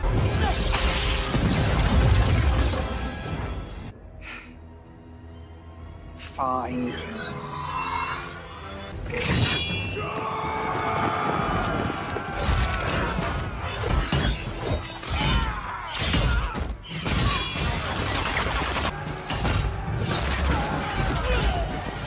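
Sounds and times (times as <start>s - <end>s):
battle film music: 0.0s - 22.0s.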